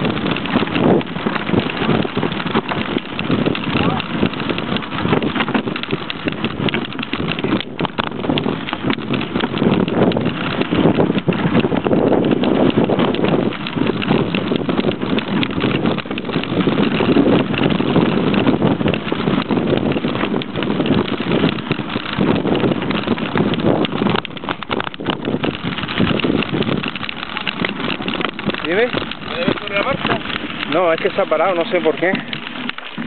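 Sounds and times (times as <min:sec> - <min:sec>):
bike rattling over rough trail: 0:00.0 - 0:33.0
wind on microphone: 0:00.0 - 0:33.0.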